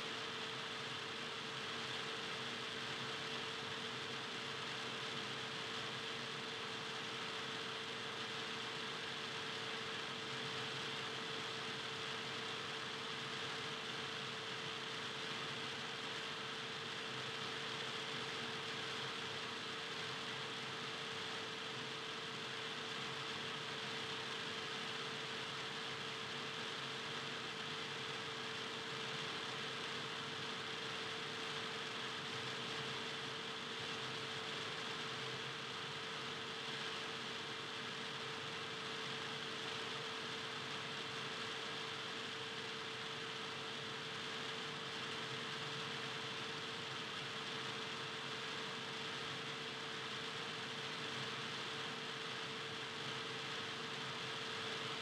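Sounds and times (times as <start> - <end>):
constant hum tone: 0.0 - 55.0.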